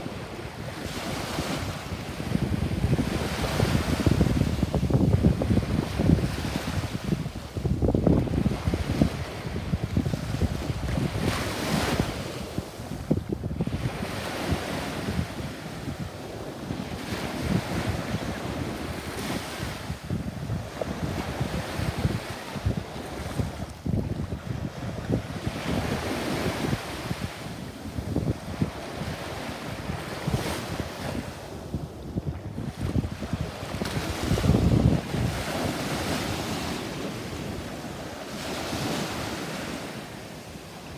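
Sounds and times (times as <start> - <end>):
ocean waves washing up beach: 0.0 - 40.9
wind buffeting microphone: 0.0 - 40.9.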